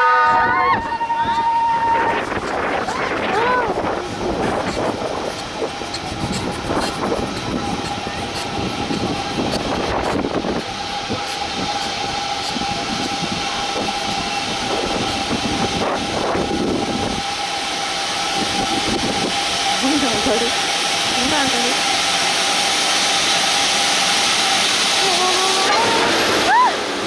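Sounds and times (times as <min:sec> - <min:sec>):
steady whine: 0:00.0 - 0:27.0
mechanical running noise: 0:01.3 - 0:27.0.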